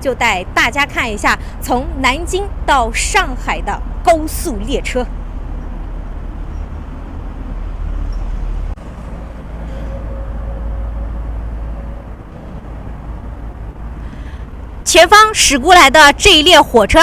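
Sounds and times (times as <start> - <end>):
highway traffic: 0.0 - 17.0.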